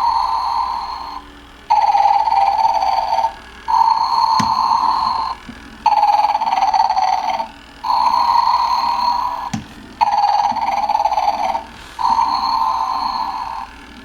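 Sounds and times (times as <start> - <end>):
electronic snoring from toy speaker: 0.0 - 14.0.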